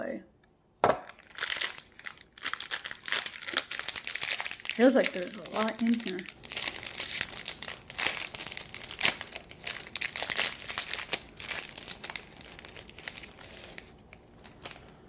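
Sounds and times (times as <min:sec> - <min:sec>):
foil wrapper crinkling and tearing: 0:01.0 - 0:15.0.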